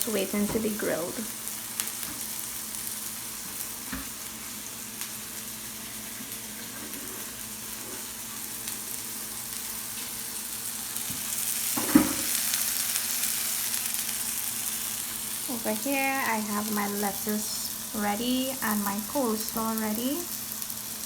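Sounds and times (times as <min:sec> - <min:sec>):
patties sizzling in a pan: 0:00.0 - 0:21.0.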